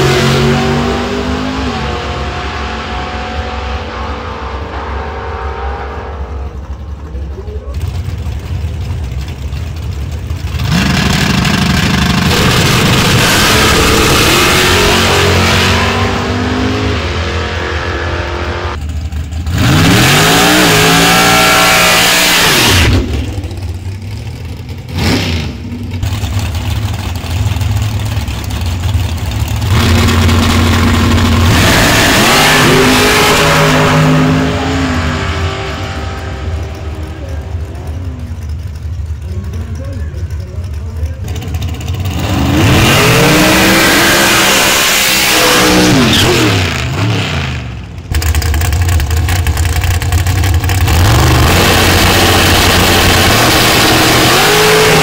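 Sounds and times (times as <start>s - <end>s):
drag racing engines revving: 0.0s - 55.0s.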